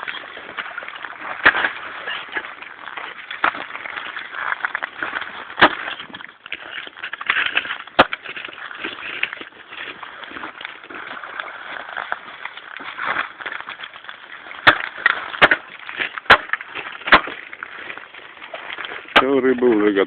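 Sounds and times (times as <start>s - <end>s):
crunching rustling noise: 0.0s - 20.0s.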